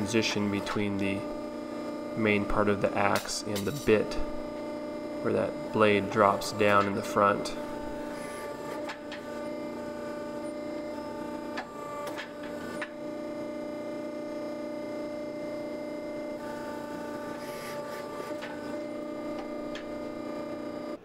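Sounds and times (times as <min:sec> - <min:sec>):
hydraulic press humming: 0:00.0 - 0:21.0.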